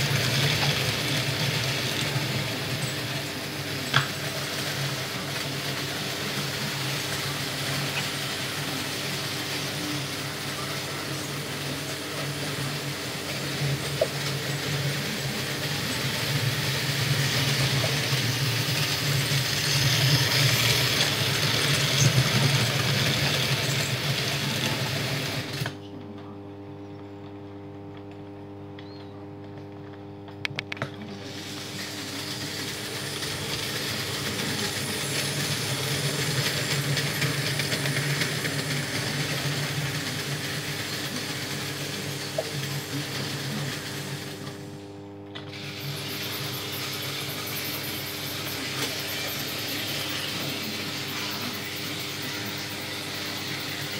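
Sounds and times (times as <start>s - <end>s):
model trains running on metal track: 0.0s - 25.8s, 30.8s - 44.8s, 45.4s - 53.9s.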